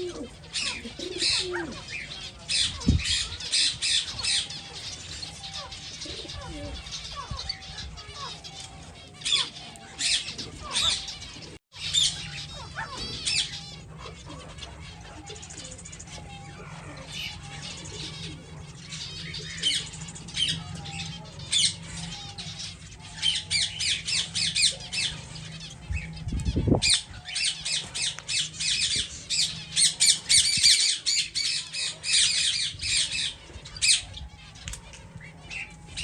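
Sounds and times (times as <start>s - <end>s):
finches calling: 0.0s - 36.0s.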